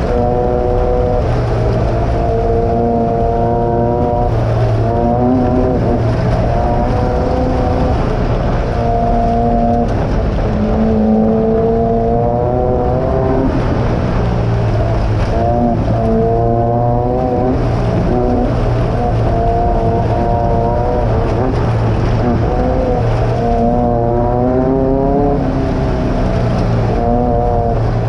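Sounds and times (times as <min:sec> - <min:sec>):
race car engine: 0:00.0 - 0:28.0
steady rumbling noise: 0:00.0 - 0:28.0.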